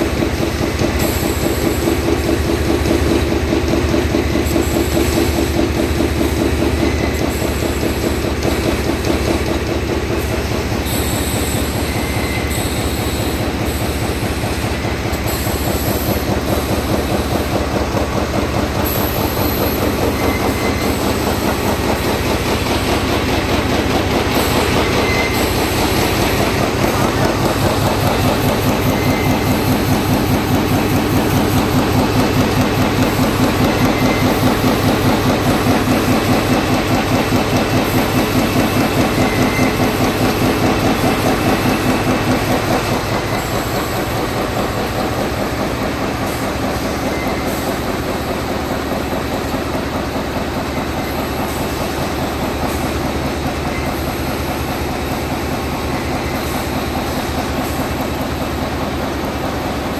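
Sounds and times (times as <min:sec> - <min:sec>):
machine clattering: 0:00.0 - 0:59.9.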